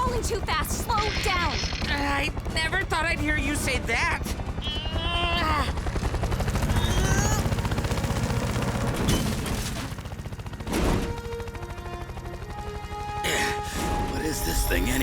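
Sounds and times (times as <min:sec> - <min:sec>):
cartoon helicopter rotor chopping: 0:00.0 - 0:15.0.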